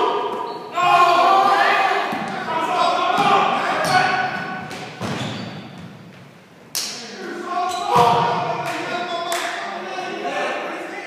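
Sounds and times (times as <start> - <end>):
players' voices: 0.0 - 6.1, 6.7 - 11.0.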